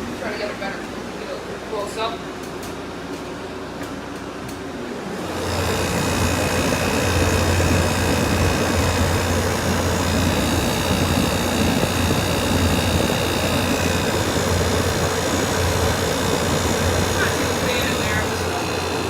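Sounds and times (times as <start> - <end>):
compressor humming: 0.0 - 19.0
fan air rushing: 0.0 - 19.0.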